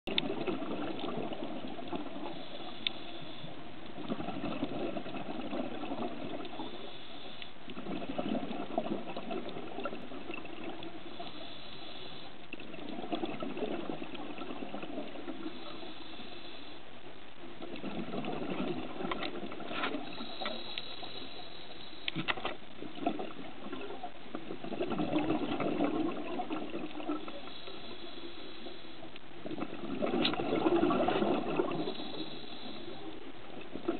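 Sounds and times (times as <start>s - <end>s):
steady hiss: 0.3s - 24.7s, 25.5s - 33.9s.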